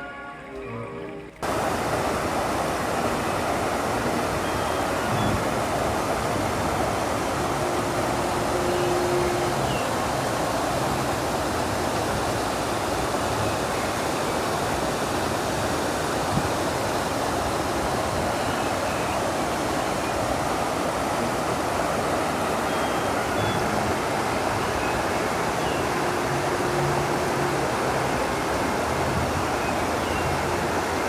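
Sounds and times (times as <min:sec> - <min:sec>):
stream water over weir: 0:00.0 - 0:31.0.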